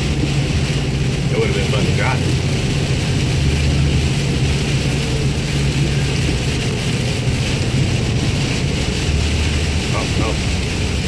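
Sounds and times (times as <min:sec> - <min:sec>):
rain on windshield: 0:00.0 - 0:11.0
tyres on wet road: 0:00.0 - 0:11.0
vehicle engine: 0:00.0 - 0:11.0.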